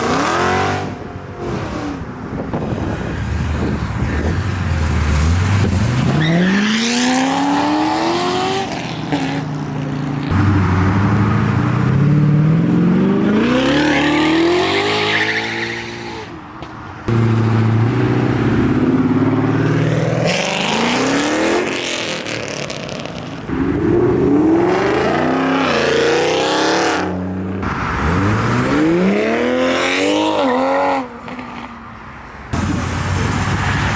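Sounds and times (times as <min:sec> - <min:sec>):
car engines accelerating hard: 0:00.0 - 0:16.3, 0:17.0 - 0:31.7.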